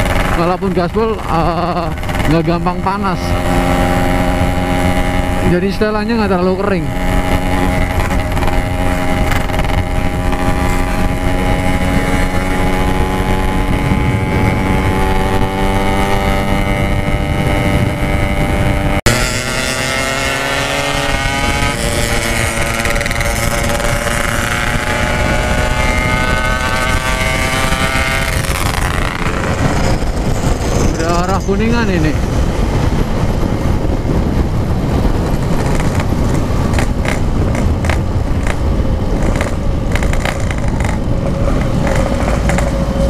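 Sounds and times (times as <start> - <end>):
two-stroke motorcycle engine: 0.0 - 43.0.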